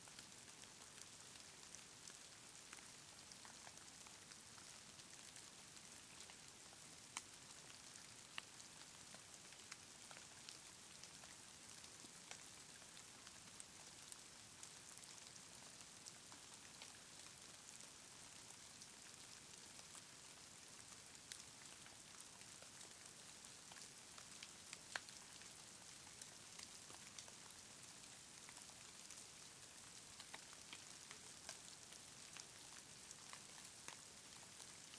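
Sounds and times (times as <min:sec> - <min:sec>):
soft ticks of snowflakes: 0:00.0 - 0:34.9.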